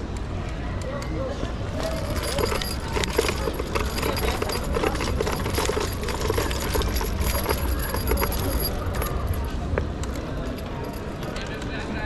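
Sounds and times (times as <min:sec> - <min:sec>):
scooter rattling and clinking: 0:01.7 - 0:11.9.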